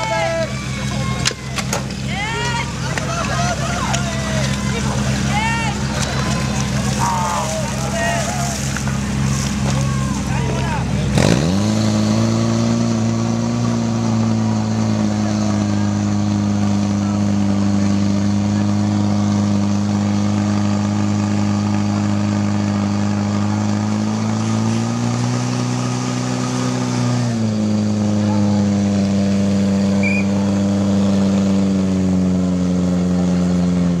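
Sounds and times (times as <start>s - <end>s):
fire pump engine running: 0.0s - 34.0s.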